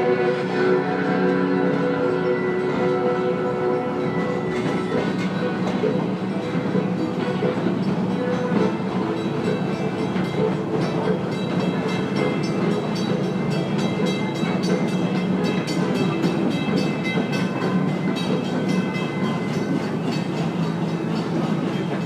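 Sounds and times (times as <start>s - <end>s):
train cars rumbling on track: 0.0s - 22.0s.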